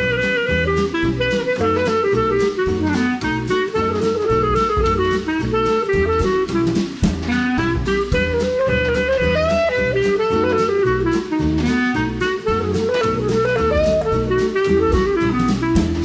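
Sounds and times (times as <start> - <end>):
drum beat: 0.0 - 16.0.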